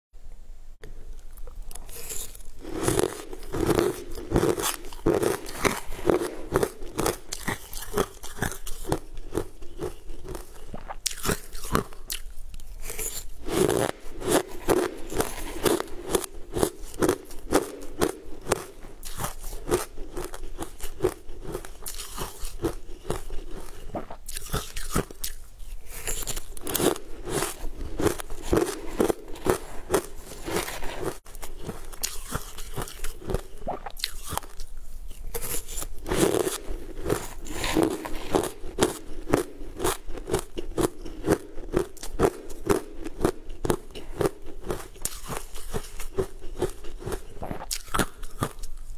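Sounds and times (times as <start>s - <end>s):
crunching and chewing ice: 1.3s - 48.9s.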